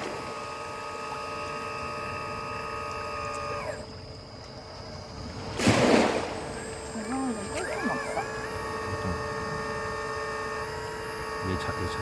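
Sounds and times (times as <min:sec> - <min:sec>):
hydraulic pump whining: 0:00.0 - 0:05.2, 0:06.3 - 0:12.0
faint steady hum: 0:00.0 - 0:12.0.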